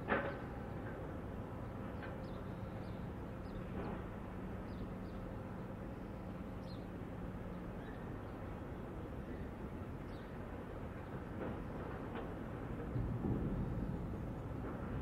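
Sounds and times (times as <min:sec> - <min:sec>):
ship engines humming: 0:00.4 - 0:15.0.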